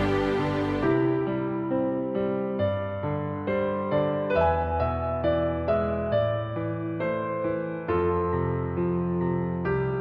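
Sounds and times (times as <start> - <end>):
slow gentle instrumental music: 0.0 - 10.0.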